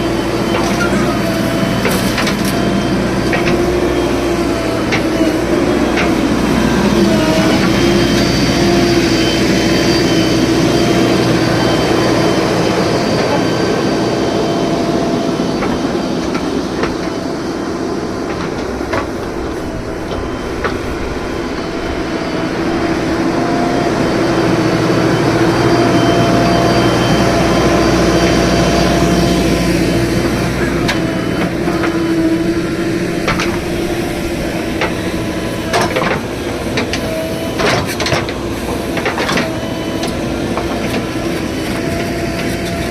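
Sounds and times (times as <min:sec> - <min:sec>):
diesel engine under load: 0:00.0 - 0:42.9
hydraulic whine: 0:00.0 - 0:42.9.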